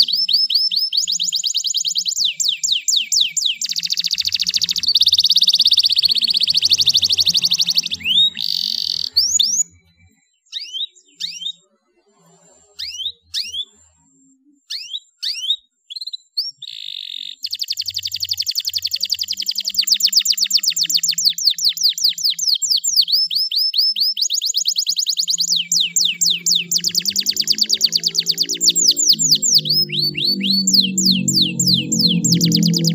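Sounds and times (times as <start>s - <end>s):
canary singing: 0.0s - 11.7s, 12.5s - 13.9s, 14.6s - 32.9s.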